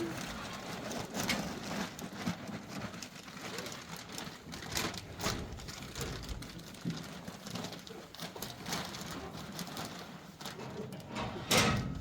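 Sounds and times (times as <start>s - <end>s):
cattle feed rustling: 0.0s - 12.0s.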